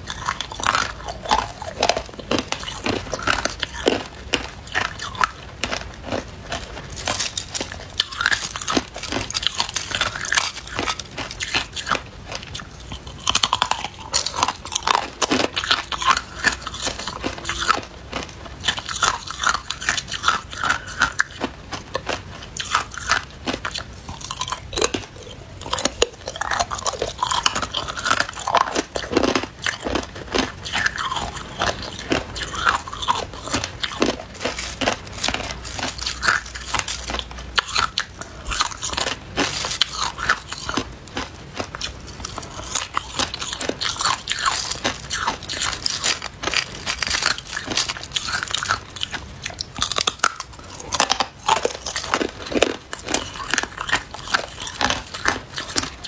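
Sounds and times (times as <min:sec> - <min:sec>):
ice being chewed crunching: 0:00.0 - 0:56.0.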